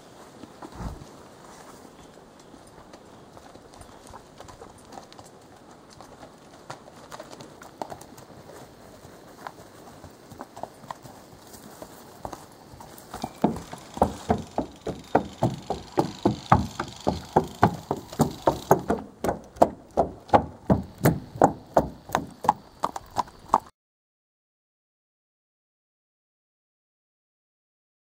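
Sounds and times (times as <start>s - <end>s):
horse hoofbeats walking: 0.0s - 23.7s.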